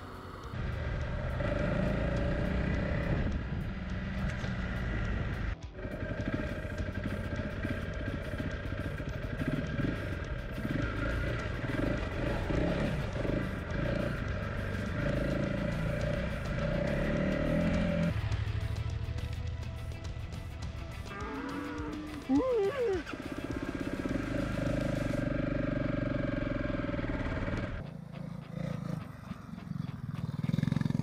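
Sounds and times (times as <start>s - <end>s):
motorcycle engine running: 0.0s - 31.0s
off-road rumbling: 0.0s - 31.0s.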